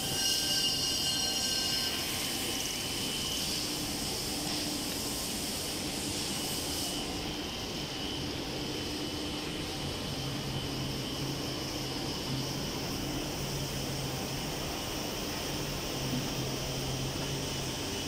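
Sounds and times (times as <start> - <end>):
machinery noise: 0.0 - 18.0.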